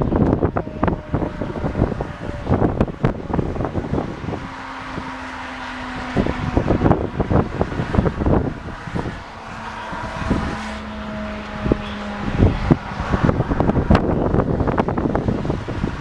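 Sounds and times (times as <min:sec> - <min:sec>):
distant warning siren: 0:00.0 - 0:15.0
wind buffeting microphone: 0:00.0 - 0:16.0.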